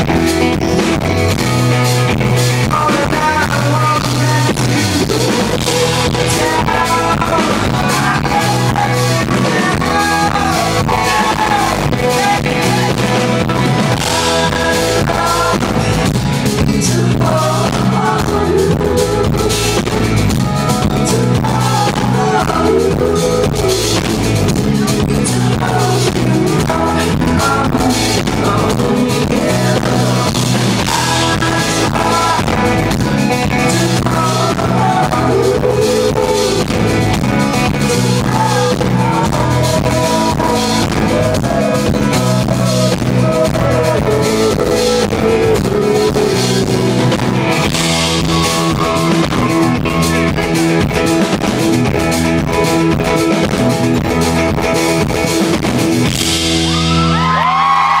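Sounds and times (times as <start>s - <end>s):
man singing: 0.0s - 57.4s
drum kit: 0.0s - 58.0s.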